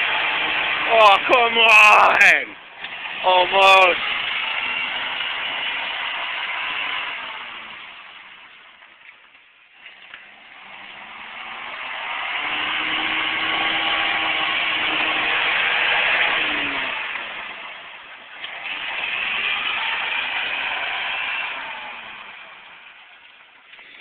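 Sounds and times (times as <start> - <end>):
engine revving: 0.0 - 8.8, 9.8 - 24.0.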